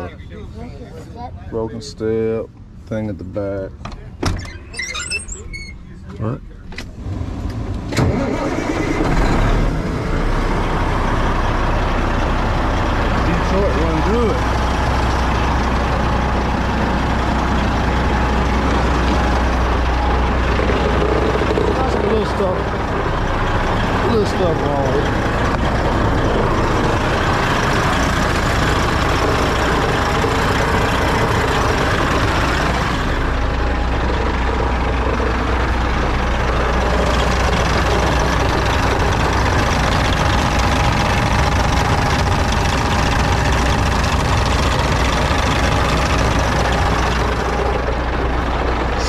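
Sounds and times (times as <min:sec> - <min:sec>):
diesel truck engine idling: 0:04.8 - 0:49.0.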